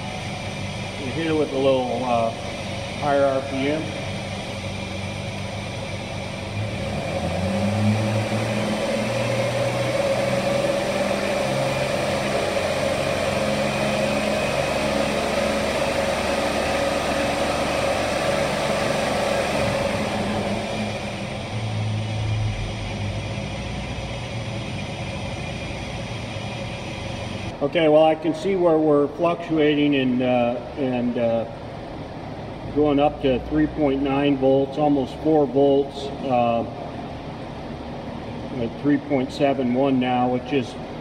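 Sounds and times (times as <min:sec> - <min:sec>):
car engine revving and idling: 0:00.0 - 0:41.0.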